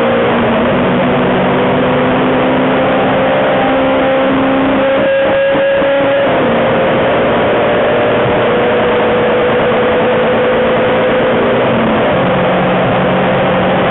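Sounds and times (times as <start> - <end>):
car engine pulling: 0.0 - 13.9
road and wind noise: 0.0 - 13.9.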